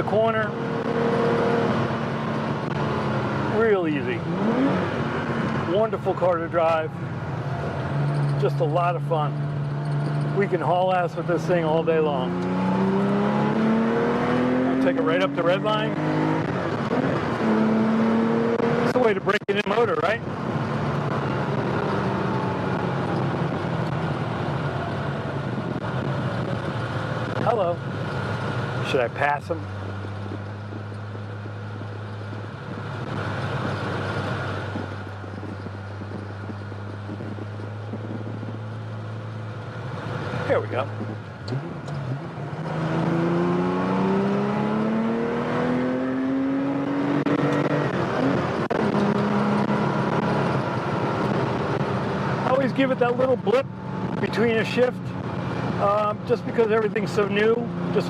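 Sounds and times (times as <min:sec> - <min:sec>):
car engine pulling steadily: 0:00.0 - 0:58.0.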